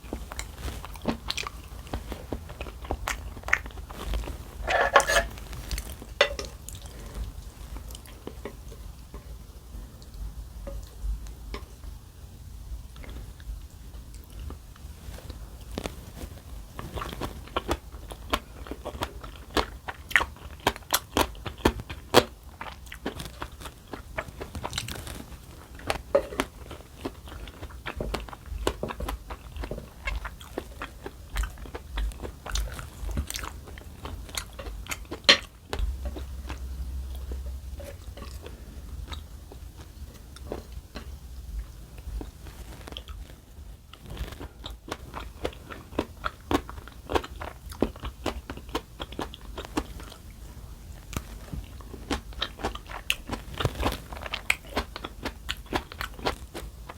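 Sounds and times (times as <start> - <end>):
person chewing crunchy food: 0.0 - 8.4, 16.8 - 56.9.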